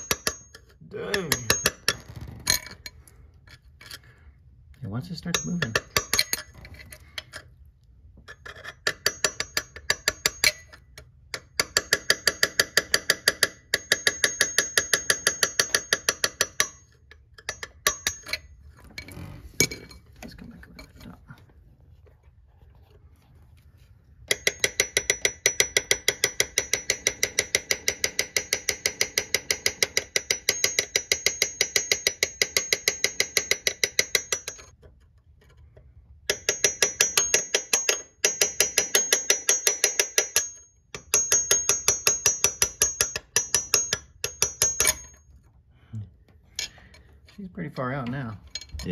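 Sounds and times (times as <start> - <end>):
metal-on-metal tapping: 0.0 - 4.0, 5.1 - 7.5, 8.2 - 21.2, 24.2 - 45.6, 46.4 - 48.9.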